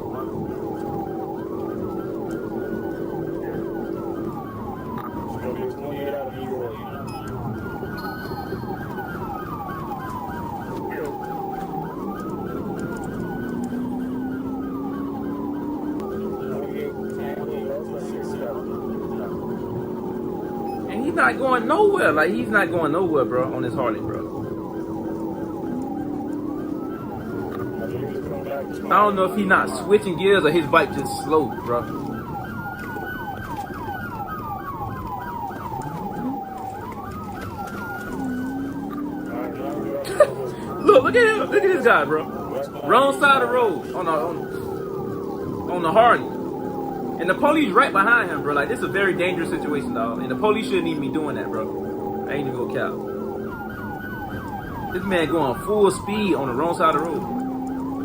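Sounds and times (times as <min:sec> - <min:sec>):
police siren wail: 0:00.0 - 0:58.0
police siren yelp: 0:00.0 - 0:58.0
vehicle engine running: 0:00.0 - 0:58.0.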